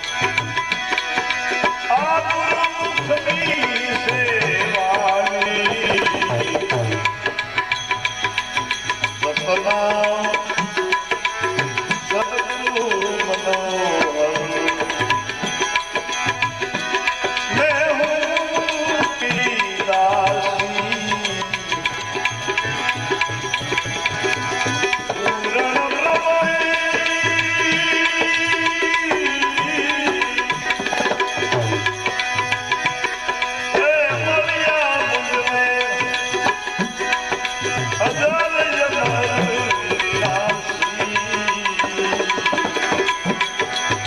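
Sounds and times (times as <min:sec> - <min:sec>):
devotional melody: 0:00.0 - 0:44.0
tabla rhythm: 0:00.0 - 0:44.0.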